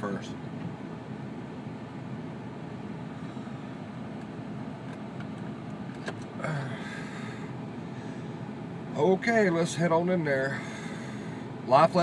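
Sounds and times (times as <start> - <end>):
car humming: 0.0 - 12.0.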